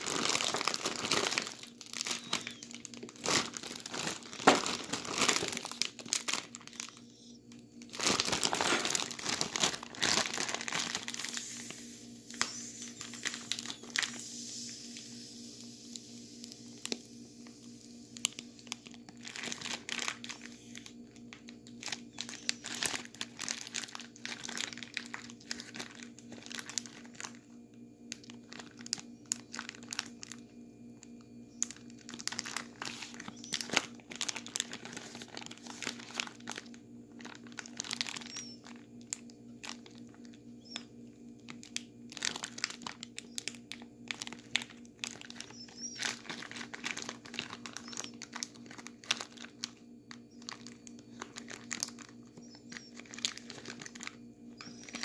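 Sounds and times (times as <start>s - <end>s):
plastic bag crinkling: 0.0s - 27.5s, 28.1s - 55.0s
faint low hum: 0.0s - 55.0s.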